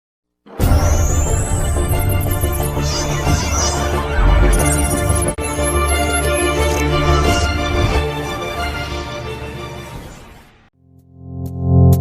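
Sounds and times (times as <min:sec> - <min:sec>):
intro music: 0:00.5 - 0:12.0.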